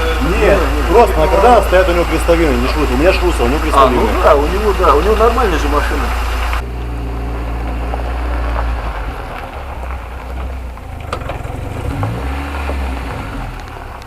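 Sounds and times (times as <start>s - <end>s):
car engine at low revs: 0.0s - 14.0s.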